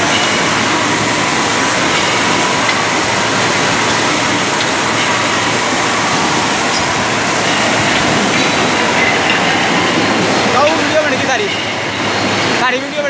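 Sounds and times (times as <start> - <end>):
bottling machinery running: 0.0 - 13.0.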